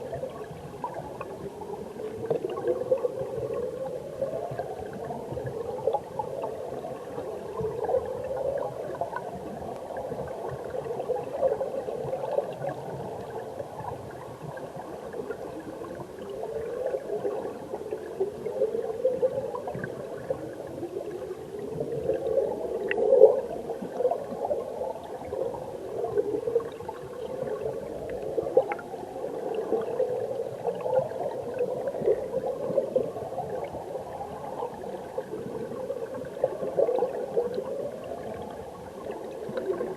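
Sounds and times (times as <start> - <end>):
underwater gurgling of stream: 0.0 - 39.9.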